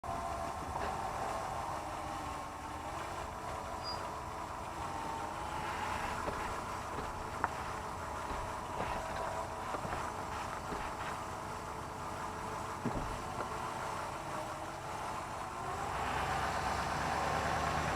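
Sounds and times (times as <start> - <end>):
drivetrain mechanical noise: 0.0 - 17.9.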